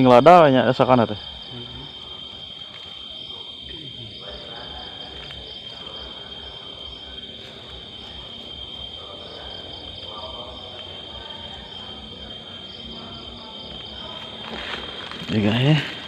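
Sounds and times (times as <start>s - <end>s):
insect pulsing call: 0.0s - 16.0s
insects buzzing trill: 0.0s - 16.0s.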